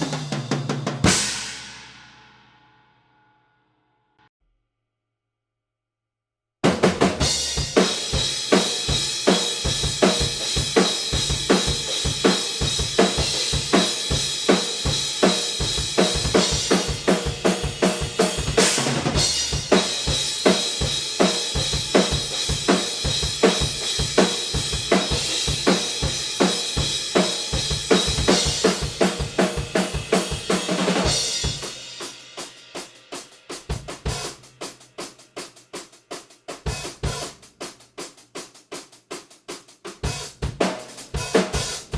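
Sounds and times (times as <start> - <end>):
snare drum: 6.6 - 34.4, 35.0 - 41.9.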